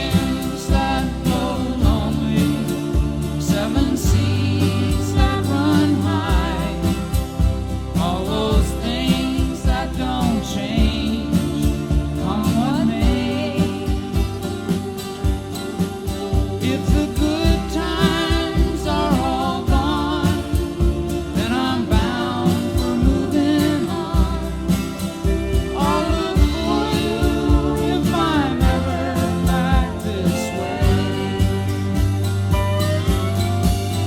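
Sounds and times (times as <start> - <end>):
person singing with vibrato: 0.0 - 33.2
country-folk instrumental backing: 0.0 - 34.0.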